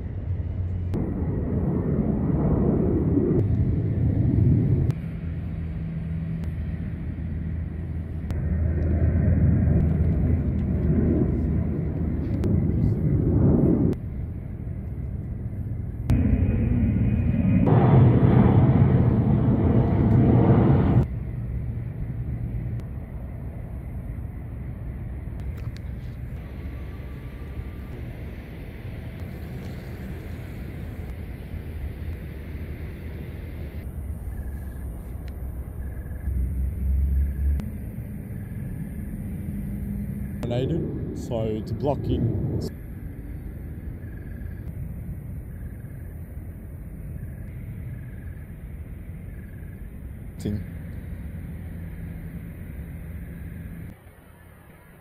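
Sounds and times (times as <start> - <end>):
low rumbling: 0.0 - 54.1
low hum: 0.0 - 55.0.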